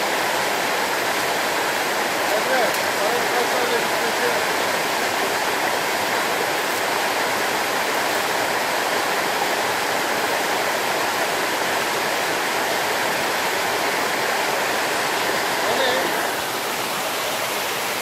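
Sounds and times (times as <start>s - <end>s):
waterfall rushing onto rocks: 0.0s - 18.0s.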